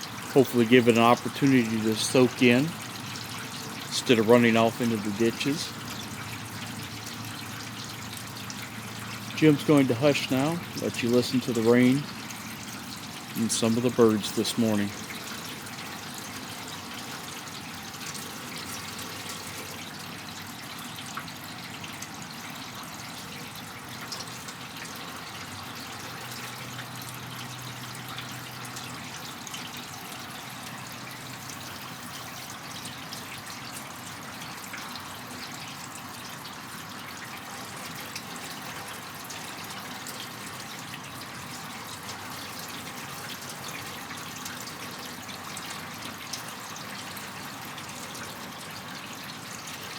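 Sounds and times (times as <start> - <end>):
rain falling: 0.0 - 49.9
water dripping and trickling: 0.0 - 49.9.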